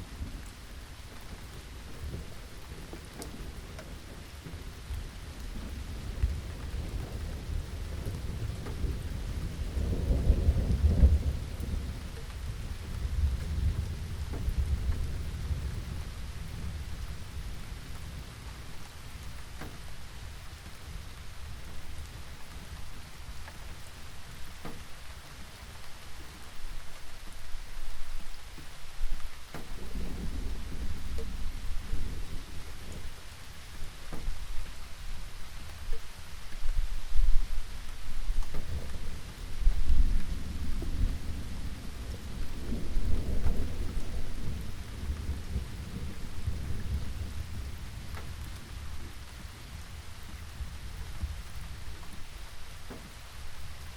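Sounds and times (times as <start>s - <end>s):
rain falling: 0.0s - 53.9s
thunder rumbling: 0.0s - 53.9s
raindrop taps: 0.2s - 53.9s.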